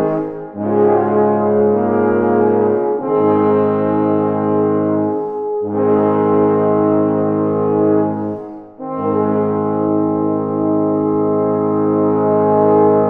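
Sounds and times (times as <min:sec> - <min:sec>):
euphonium ensemble brass chords: 0:00.0 - 0:13.0.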